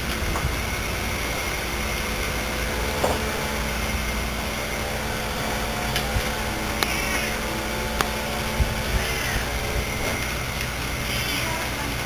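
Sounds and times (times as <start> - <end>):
faint high whine: 0.0 - 12.0
machine hum and hiss: 0.0 - 12.0.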